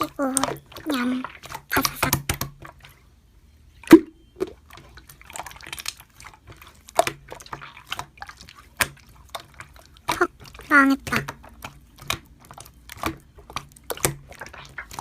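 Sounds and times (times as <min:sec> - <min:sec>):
slime squishing and popping: 0:00.0 - 0:02.9, 0:03.8 - 0:15.0.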